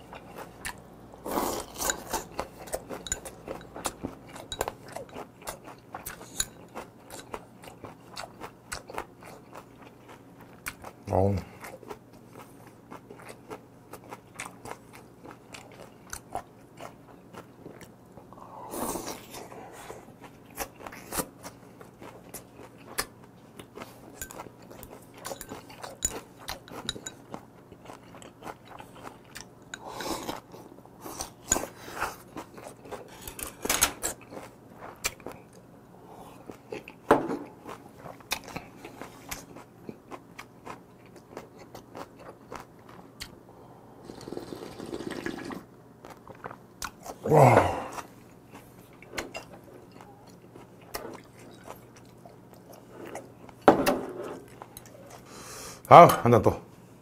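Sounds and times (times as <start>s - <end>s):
chewing and crunching food: 0.0s - 53.7s, 54.3s - 55.4s.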